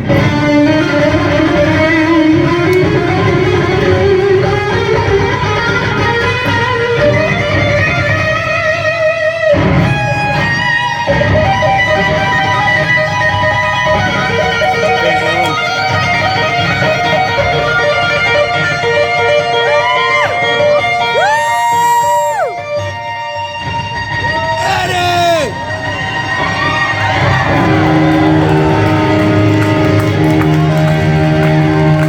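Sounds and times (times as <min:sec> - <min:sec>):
electric guitar solo: 0:00.0 - 0:32.0
live rock band playing: 0:00.0 - 0:32.0.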